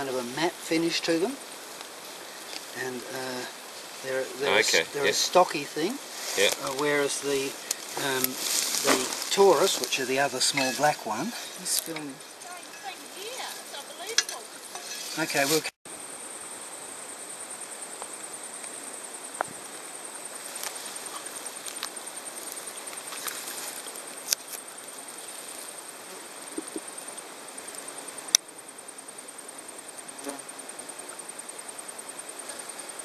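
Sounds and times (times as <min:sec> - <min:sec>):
beetles buzzing in flight: 0:00.0 - 0:33.0.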